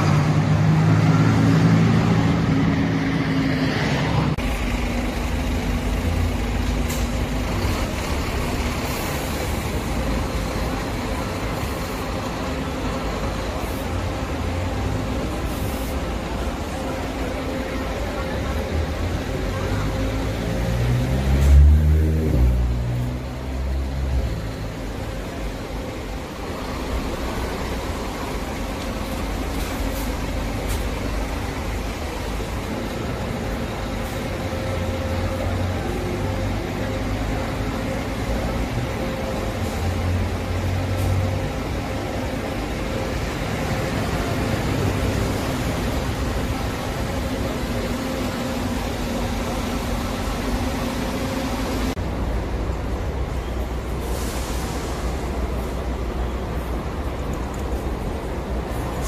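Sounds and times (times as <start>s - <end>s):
bus engine running: 0.0s - 59.0s
road traffic noise: 0.0s - 59.0s.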